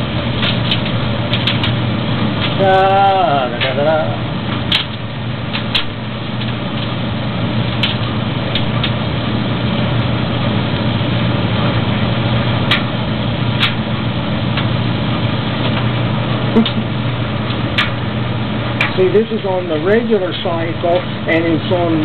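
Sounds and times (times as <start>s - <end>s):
gas dryer humming: 0.0s - 22.0s.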